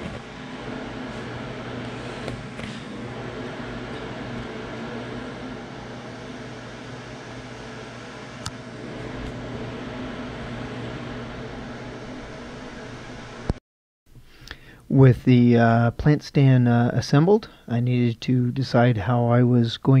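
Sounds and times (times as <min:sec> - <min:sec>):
machine hum with hiss: 0:00.0 - 0:17.9.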